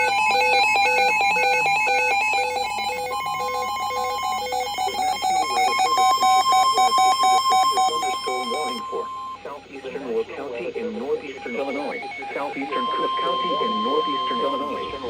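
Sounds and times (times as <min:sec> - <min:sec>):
steady electronic tone: 0:00.0 - 0:09.7, 0:10.8 - 0:15.0
electronic beeping tones: 0:00.0 - 0:10.0, 0:10.7 - 0:15.0.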